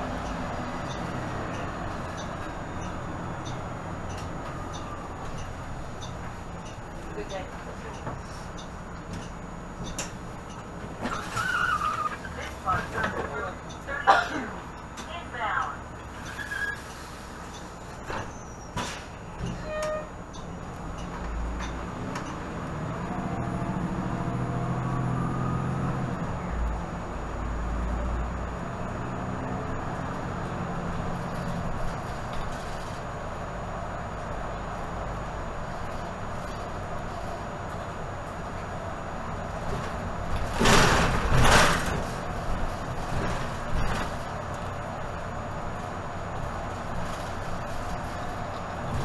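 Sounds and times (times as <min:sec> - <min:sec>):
bus diesel engine accelerating: 0:00.0 - 0:49.0.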